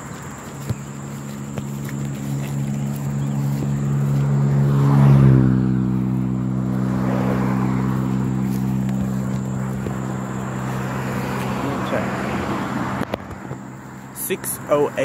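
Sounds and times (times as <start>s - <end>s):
passing engine hum: 0.0s - 15.0s.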